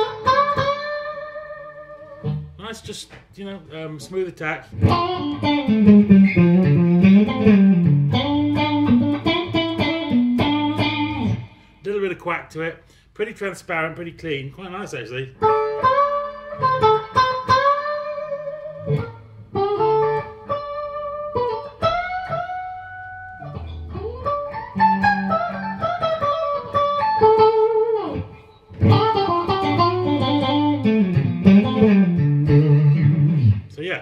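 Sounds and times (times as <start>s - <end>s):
clean electric guitar: 0.0s - 3.3s, 4.0s - 11.8s, 15.4s - 33.7s.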